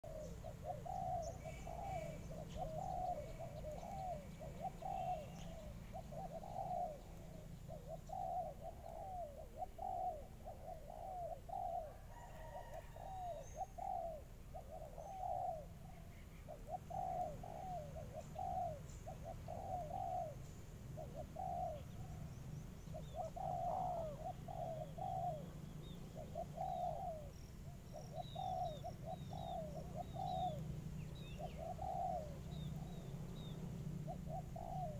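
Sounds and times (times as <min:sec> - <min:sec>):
dove cooing: 0:00.0 - 0:34.9
small birds chirping faintly: 0:00.0 - 0:34.9.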